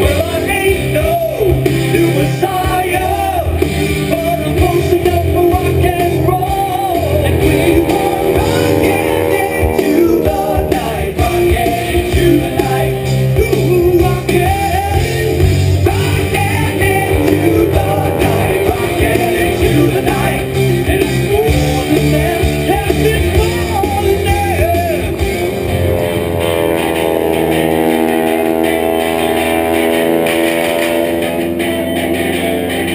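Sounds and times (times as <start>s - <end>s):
rock music with singing: 0.0s - 32.9s.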